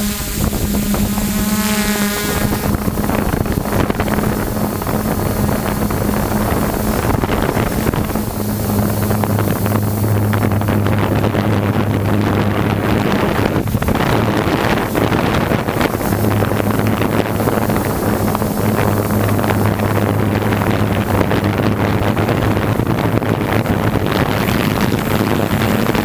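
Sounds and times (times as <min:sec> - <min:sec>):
drone motors humming: 0:00.0 - 0:26.0
wind on microphone: 0:00.0 - 0:26.0.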